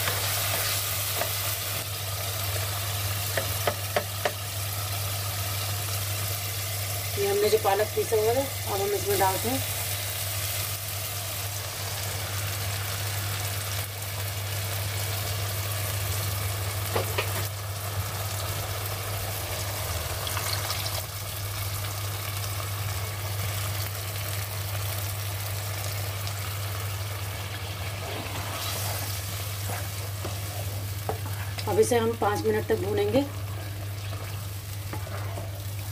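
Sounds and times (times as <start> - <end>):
food sizzling in a pan: 0.0 - 35.9.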